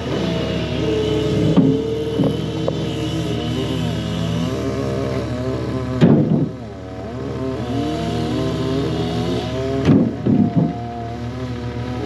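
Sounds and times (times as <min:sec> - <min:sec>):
chainsaws cutting wood: 0:00.0 - 0:12.0.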